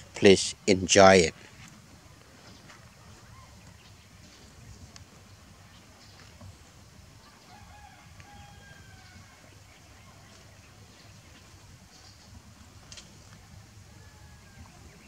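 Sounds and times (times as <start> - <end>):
faint distant bird call: 1.4 - 15.0.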